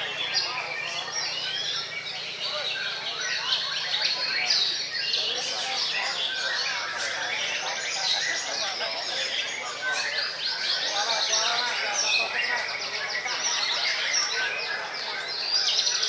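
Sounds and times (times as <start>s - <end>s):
songbirds singing together: 0.0s - 16.0s.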